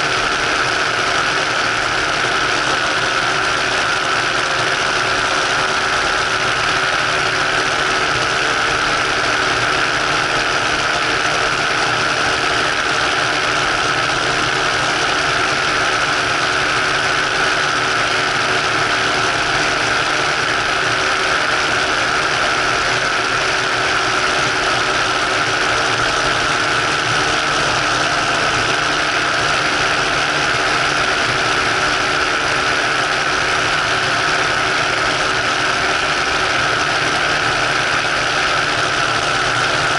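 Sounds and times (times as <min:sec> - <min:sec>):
ultralight engine and propeller: 0:00.0 - 0:39.9.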